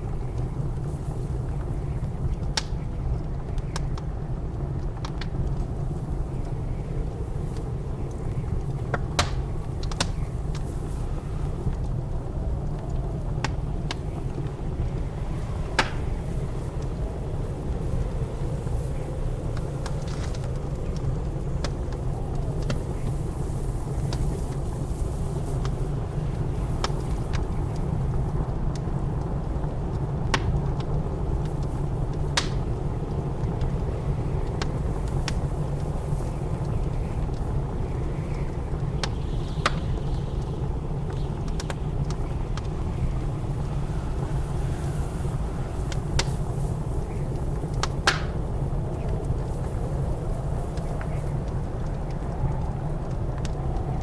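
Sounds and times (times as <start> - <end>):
blizzard wind rumbling: 0.0 - 54.0
wood fire crackling and popping: 0.0 - 54.0.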